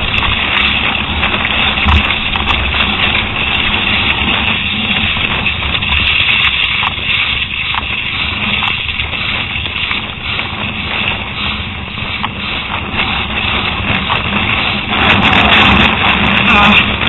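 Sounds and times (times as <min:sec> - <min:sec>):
bike clicks and rattles: 0:00.0 - 0:17.0
tyres rushing over gravel: 0:00.0 - 0:17.0
wind buffeting microphone: 0:00.0 - 0:17.0.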